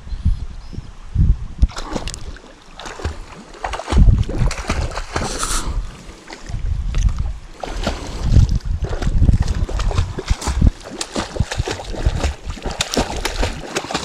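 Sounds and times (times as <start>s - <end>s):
shallow water splashing: 1.7s - 14.0s.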